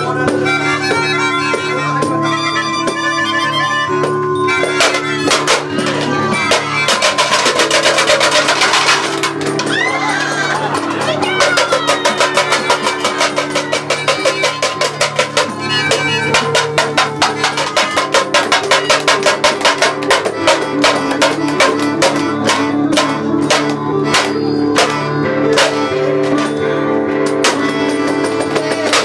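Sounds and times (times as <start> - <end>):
melodica held notes: 0.0 - 29.0
steel bowl drum strikes: 4.6 - 9.9, 10.7 - 29.0.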